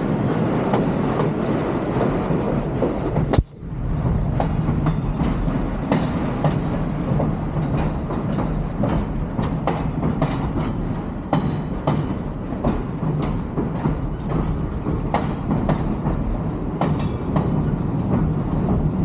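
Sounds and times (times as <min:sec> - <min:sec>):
train rumbling on track: 0:00.0 - 0:19.0
wheels clicking over rail joints: 0:00.7 - 0:19.0.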